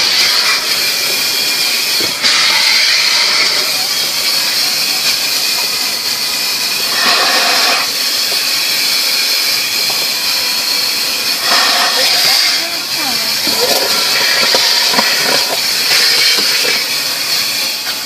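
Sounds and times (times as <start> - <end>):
car wash air blowers hissing: 0.0 - 18.0.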